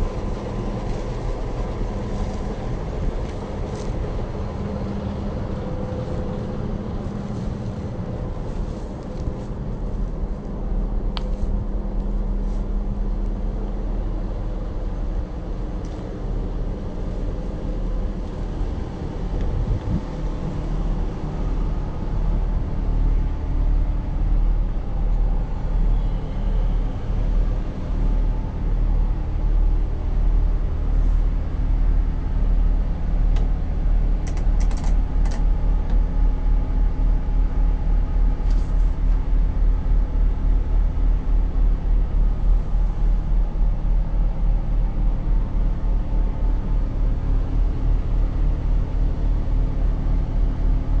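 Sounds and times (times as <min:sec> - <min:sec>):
excavator diesel engine drone: 0:00.0 - 0:51.0.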